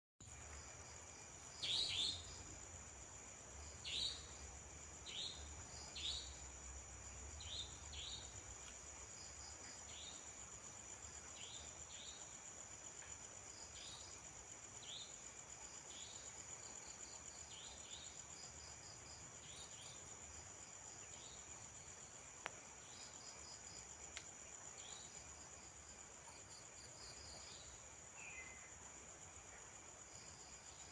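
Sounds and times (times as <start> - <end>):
crickets trilling: 0.2 - 30.9.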